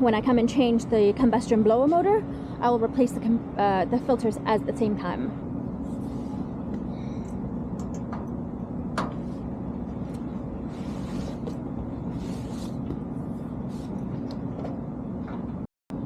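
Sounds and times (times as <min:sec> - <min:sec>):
hvac units humming: 0:00.0 - 0:16.0.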